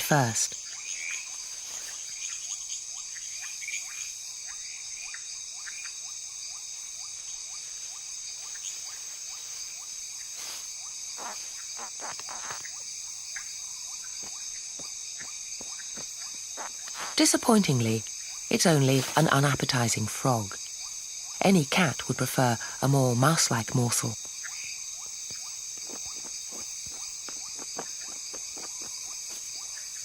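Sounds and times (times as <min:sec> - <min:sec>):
frogs chirping: 0:00.0 - 0:30.0
high-pitched insect trill: 0:00.0 - 0:30.0.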